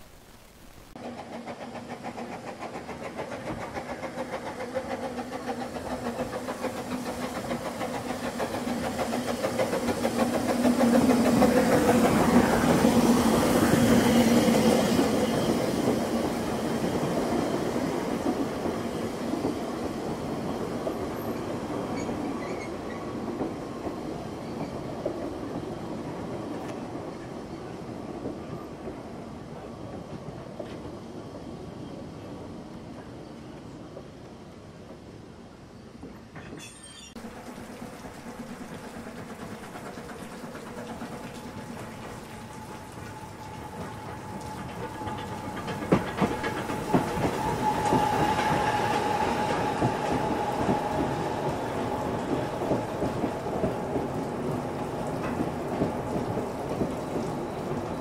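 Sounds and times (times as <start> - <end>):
steam train passing: 0.0 - 58.0
wheels clattering on rail: 1.0 - 26.9, 36.0 - 58.0.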